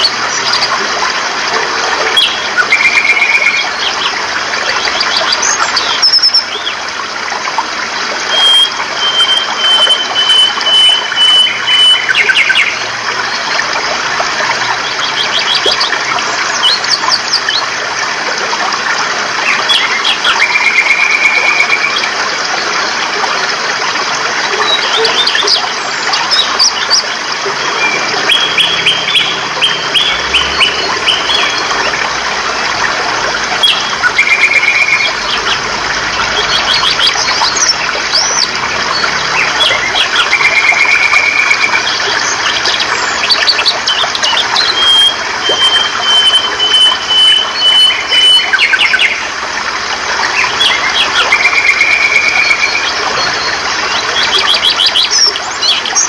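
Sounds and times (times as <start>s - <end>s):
birds singing: 0.0s - 7.0s, 8.2s - 13.8s, 14.4s - 17.8s, 19.4s - 22.2s, 24.4s - 49.4s, 50.0s - 56.0s
stream water rushing: 0.0s - 56.0s.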